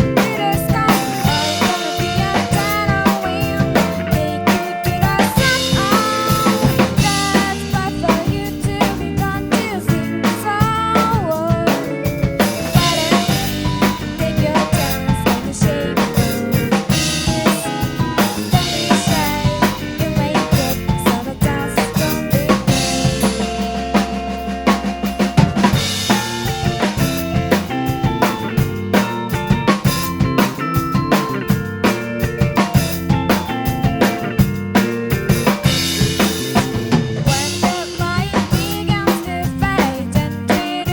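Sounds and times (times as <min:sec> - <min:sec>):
drum kit playing: 0:00.0 - 0:40.9
recorded pop song: 0:00.0 - 0:40.9.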